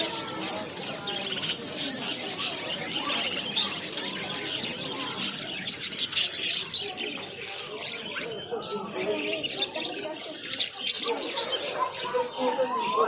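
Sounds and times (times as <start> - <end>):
many birds chirping: 0.0 - 13.0.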